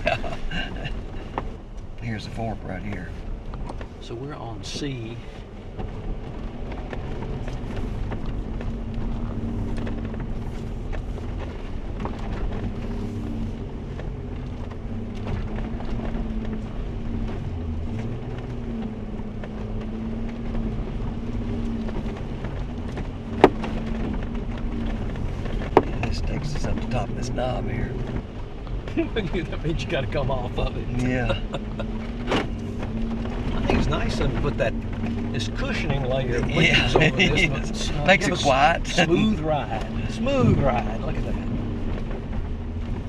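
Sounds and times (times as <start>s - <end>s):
vehicle engine running at low speed: 0.0s - 43.0s.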